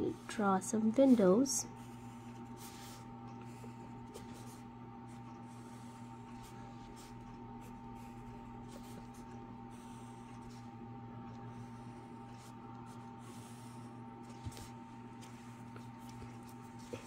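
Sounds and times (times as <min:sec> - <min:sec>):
pencil scratching on paper: 0:00.0 - 0:17.0
steady electrical hum: 0:00.0 - 0:17.0.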